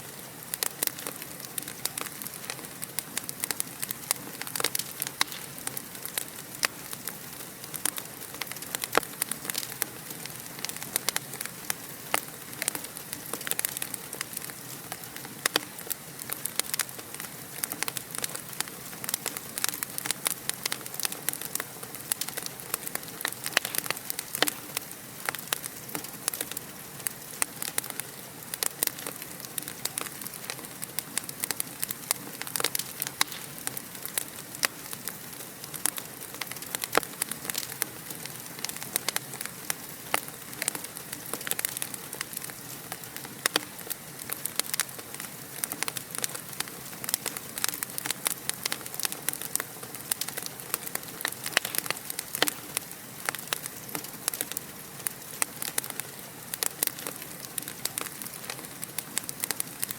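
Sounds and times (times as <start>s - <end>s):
fire hissing: 0.0s - 59.9s
wood fire popping and snapping: 0.0s - 59.9s.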